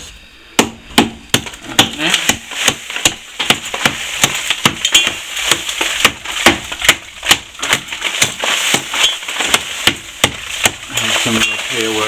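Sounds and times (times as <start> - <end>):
hand tool striking plaster: 0.6 - 12.0.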